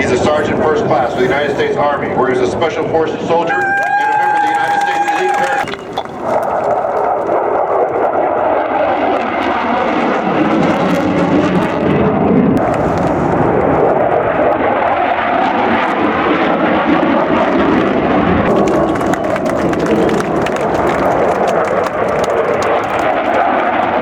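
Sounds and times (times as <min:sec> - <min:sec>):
airplane engine droning: 0:00.0 - 0:24.0.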